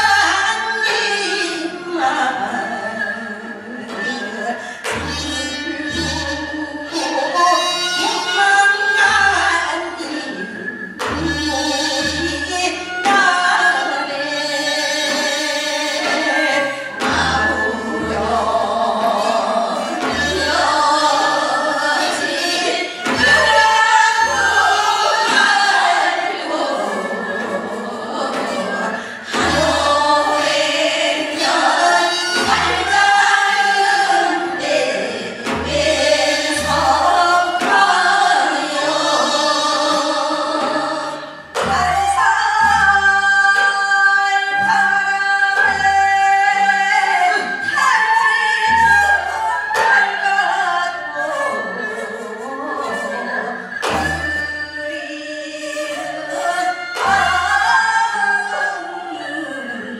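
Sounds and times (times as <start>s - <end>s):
voices singing folk song: 0.0s - 59.9s.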